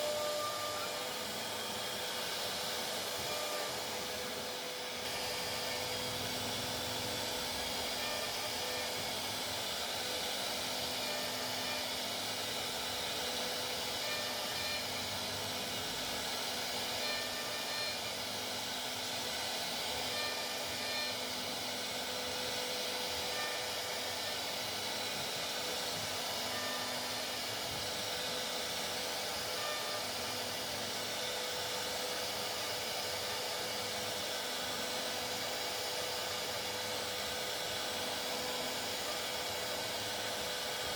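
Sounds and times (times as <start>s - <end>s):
cnc router machining hiss: 0.0s - 40.9s.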